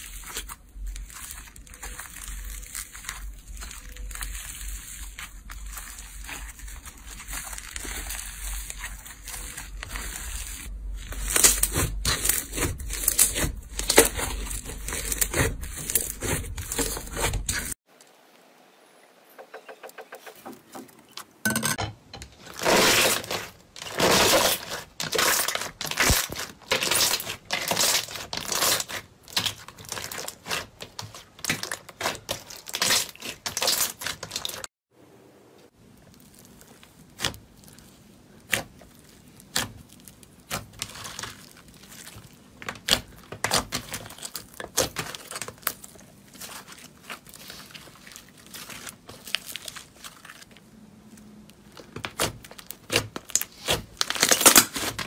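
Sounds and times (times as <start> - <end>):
slime crackling and popping: 0.0 - 17.8, 22.7 - 34.7, 35.9 - 50.7, 51.5 - 55.0.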